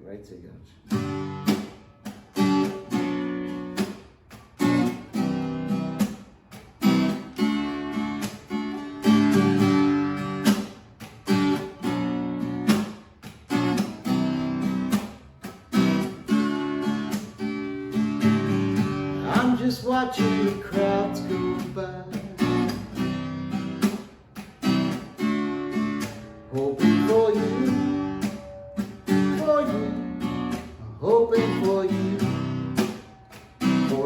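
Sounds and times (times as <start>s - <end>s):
acoustic guitar strumming: 0.8s - 34.0s.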